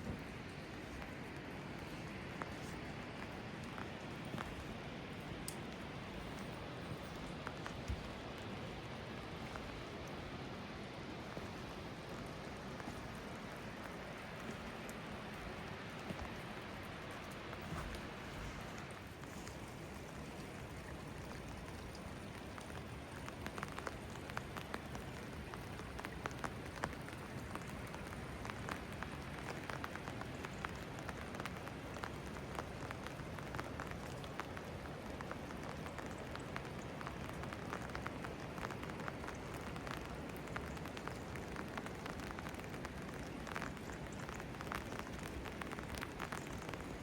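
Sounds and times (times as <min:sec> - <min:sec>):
raindrops hitting close by: 0:00.0 - 0:47.0
steady rainfall: 0:00.0 - 0:47.0.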